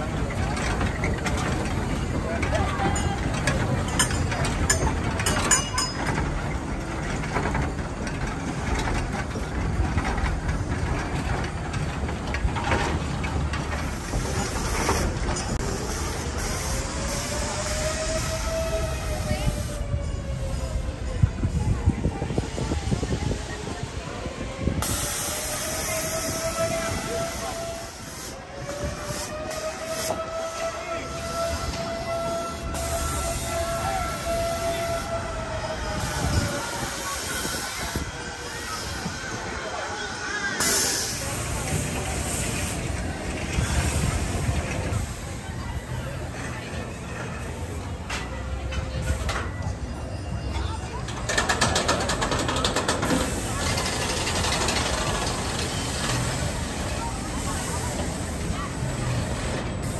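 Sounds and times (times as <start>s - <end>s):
ride machinery rumbling: 0.0s - 59.9s.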